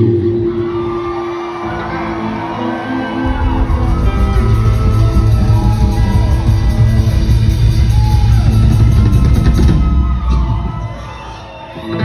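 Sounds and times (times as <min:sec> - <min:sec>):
electric guitar: 0:00.0 - 0:09.9
bass: 0:00.0 - 0:12.0
drums: 0:00.5 - 0:12.0.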